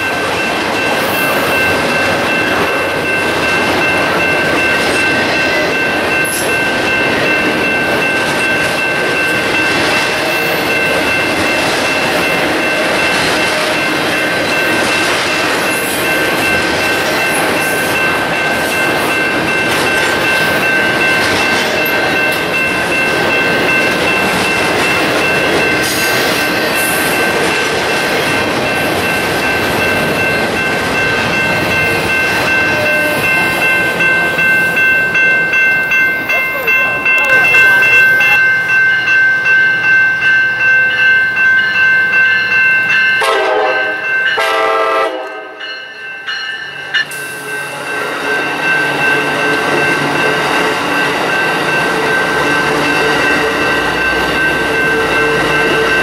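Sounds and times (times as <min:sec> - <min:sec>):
crossing bell ringing: 0:00.0 - 0:56.0
freight train wheels clattering: 0:00.0 - 0:56.0.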